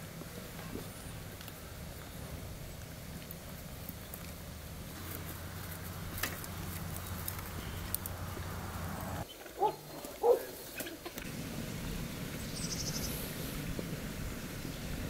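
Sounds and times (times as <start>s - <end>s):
low outdoor rumble: 0.0s - 9.3s, 10.8s - 15.0s.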